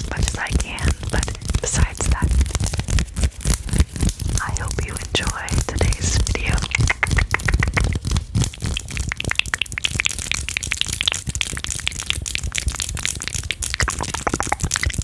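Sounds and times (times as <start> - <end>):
tongue and lip clicks: 0.0 - 15.0.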